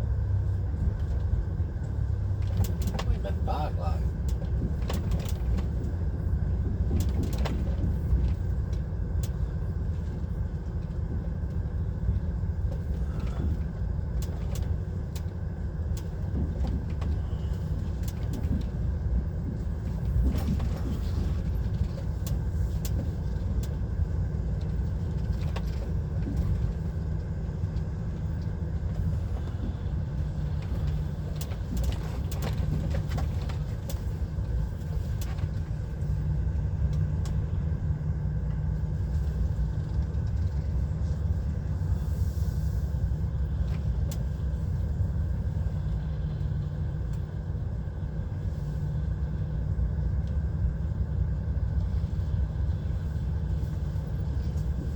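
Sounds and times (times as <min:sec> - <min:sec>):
diesel engine rumbling: 0:00.0 - 0:54.9.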